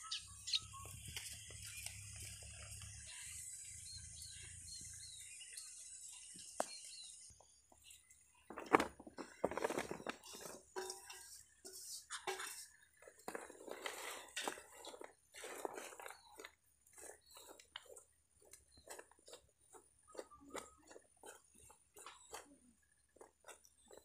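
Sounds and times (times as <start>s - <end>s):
birds chirping faintly: 0.0s - 24.0s.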